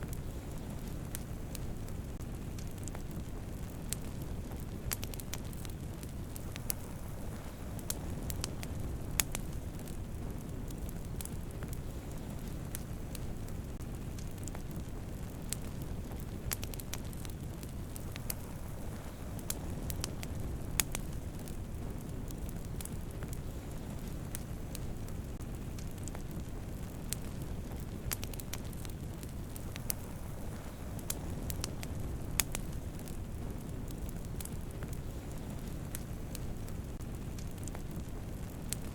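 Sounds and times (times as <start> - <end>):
low rush of flames: 0.0 - 38.9
wood fire crackling and popping: 0.0 - 38.9.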